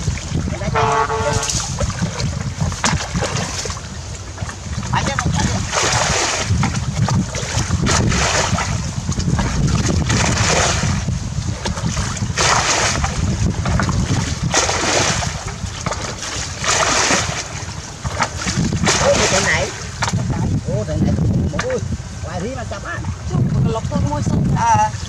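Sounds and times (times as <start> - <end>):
water splashing from bucket: 0.0 - 20.5
wind rumble on microphone: 0.0 - 25.0.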